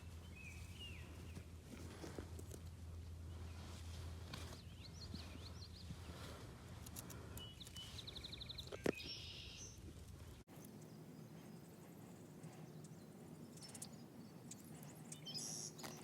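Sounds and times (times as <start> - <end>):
faint songbirds singing: 0.0 - 16.0.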